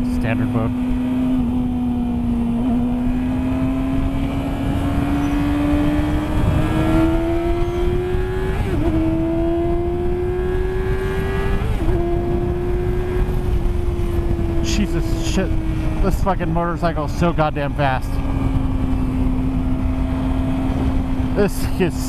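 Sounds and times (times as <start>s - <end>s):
motorcycle engine revving: 0.0s - 22.0s
wind rush: 1.4s - 22.0s.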